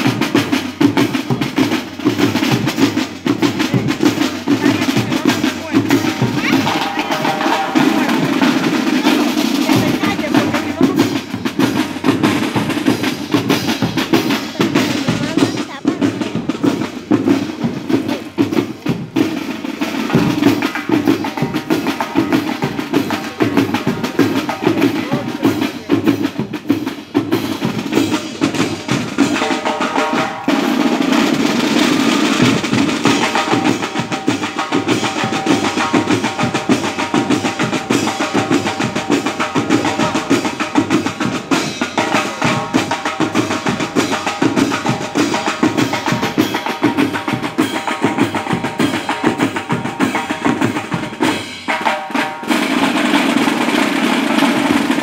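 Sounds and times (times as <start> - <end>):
fast drumming: 0.0 - 55.0.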